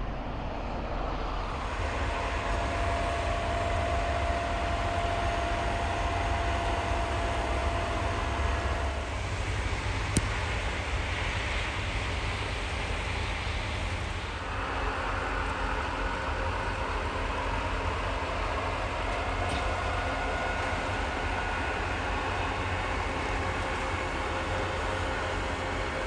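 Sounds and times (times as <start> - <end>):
faint engine tones: 0.0 - 26.0.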